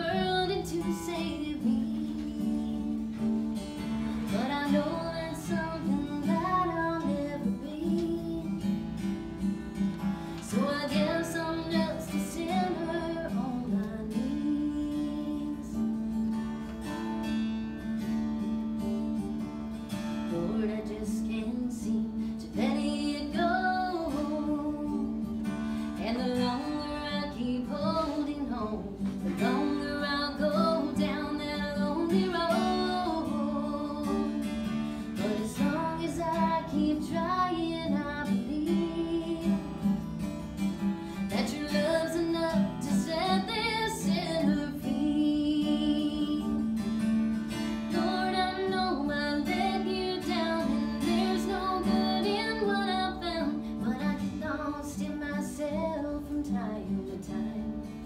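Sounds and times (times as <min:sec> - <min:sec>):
woman singing: 0:00.0 - 0:17.1, 0:19.9 - 0:58.0
acoustic guitar strumming: 0:00.0 - 0:58.0.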